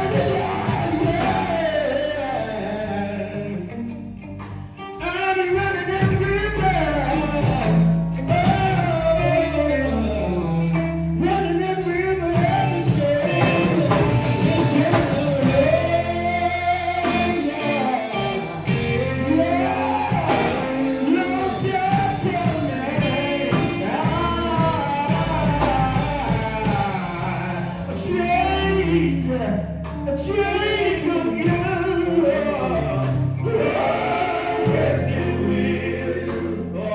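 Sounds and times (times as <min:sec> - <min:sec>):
male vocal group singing: 0:00.0 - 0:03.9, 0:04.9 - 0:36.9
band with low bass notes: 0:00.0 - 0:36.9.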